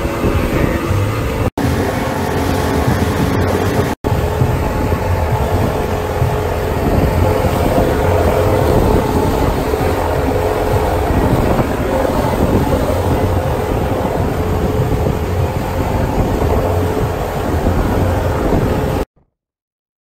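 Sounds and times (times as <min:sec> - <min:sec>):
motorboat engine running: 0:00.0 - 0:19.1
water rushing past hull: 0:00.0 - 0:19.1
wind on microphone: 0:00.0 - 0:19.1.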